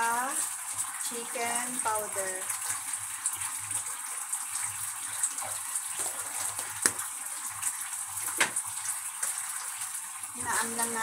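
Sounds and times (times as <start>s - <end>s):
sauce bubbling and sizzling in a wok: 0.0s - 11.0s.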